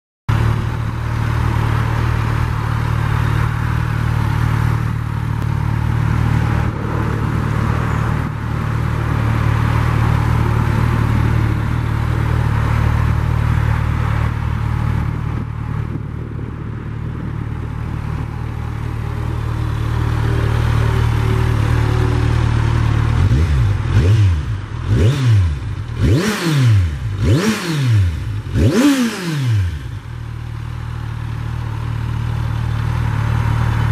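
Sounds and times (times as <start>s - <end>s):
motorcycle engine idling: 0.3s - 33.9s
motorcycle engine revving: 0.3s - 33.9s.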